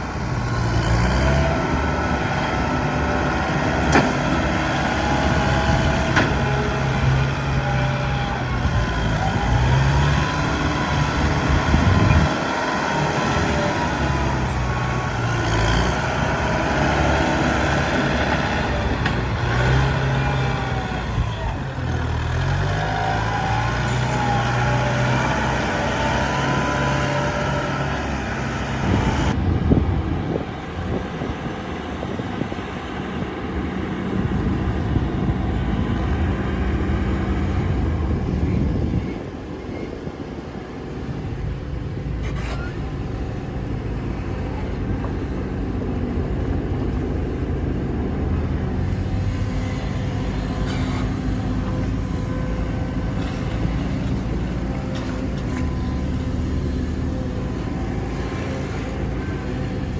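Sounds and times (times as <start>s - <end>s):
diesel excavator engine: 0.0s - 59.9s.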